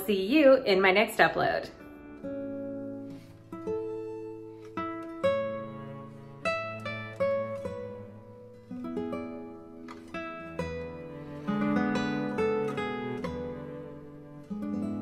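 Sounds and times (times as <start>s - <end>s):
plucked string instrument music: 1.6s - 15.0s.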